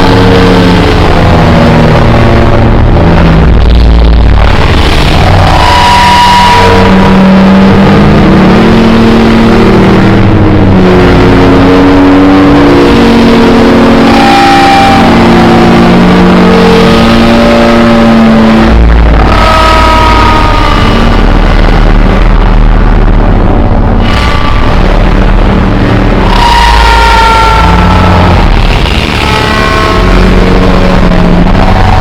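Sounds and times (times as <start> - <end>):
harsh distorted noise: 0.0 - 32.0.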